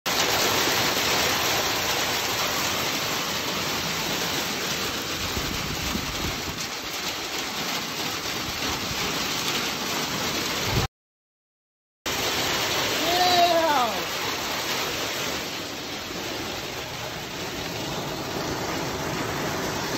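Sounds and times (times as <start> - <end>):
hail rattling on metal roof: 0.1 - 10.7, 12.1 - 19.9.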